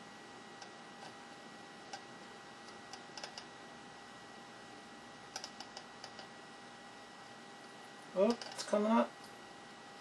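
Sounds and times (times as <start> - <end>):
faint hiss with high whine: 0.0 - 10.0.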